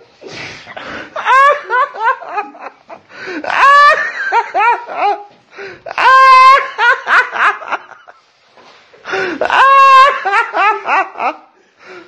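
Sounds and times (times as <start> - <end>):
person laughing hard: 0.7 - 8.3, 9.1 - 11.5.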